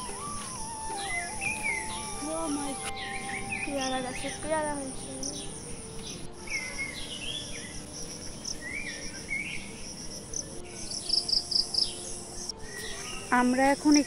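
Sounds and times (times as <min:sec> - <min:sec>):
birds chirping: 0:00.0 - 0:14.0
insects trilling: 0:00.0 - 0:14.0.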